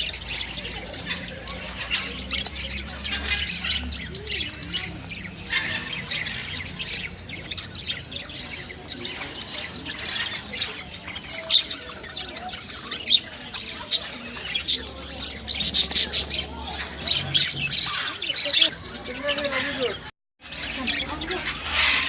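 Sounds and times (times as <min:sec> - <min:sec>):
parrots squawking and chattering: 0:00.0 - 0:22.0.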